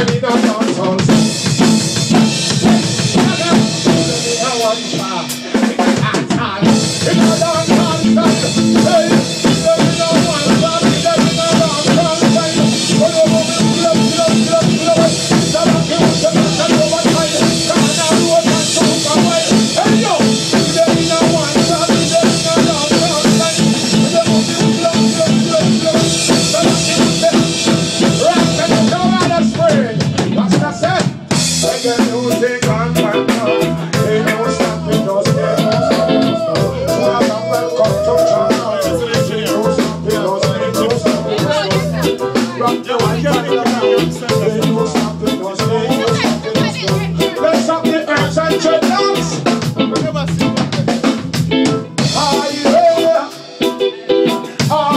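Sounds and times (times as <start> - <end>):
man singing into microphone: 0.0 - 1.6, 2.4 - 51.0, 52.0 - 54.9
live reggae band playing: 0.0 - 54.9
pulsing bass line: 1.1 - 4.6, 6.5 - 52.6.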